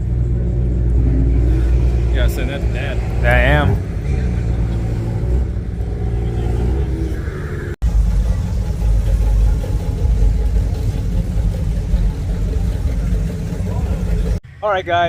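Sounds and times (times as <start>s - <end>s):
car engines exhaust rumble: 0.0s - 15.0s.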